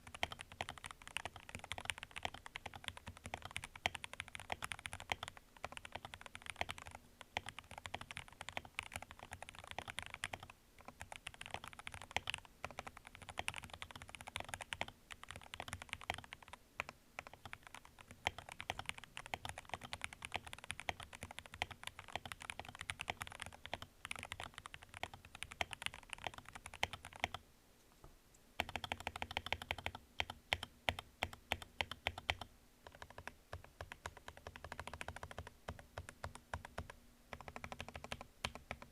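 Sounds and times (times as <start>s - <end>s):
mechanical keyboard typing: 0.0s - 27.4s, 28.6s - 38.9s.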